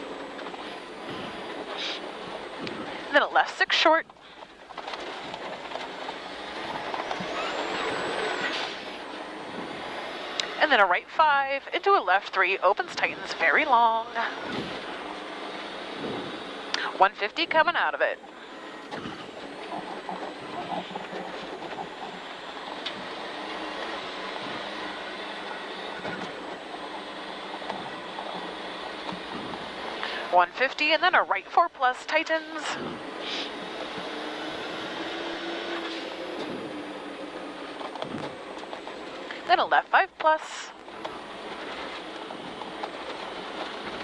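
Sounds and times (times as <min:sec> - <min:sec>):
faint rising whine: 0:00.0 - 0:44.0
rally car engine accelerating: 0:00.0 - 0:44.0
tyres on snow: 0:00.0 - 0:44.0.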